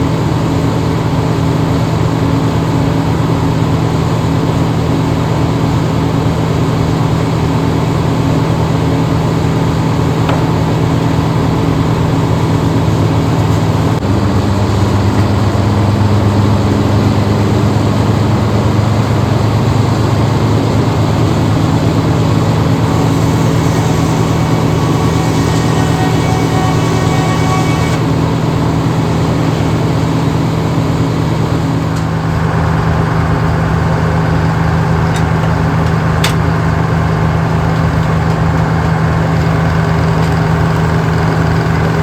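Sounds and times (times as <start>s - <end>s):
large engine running: 0.0s - 42.0s.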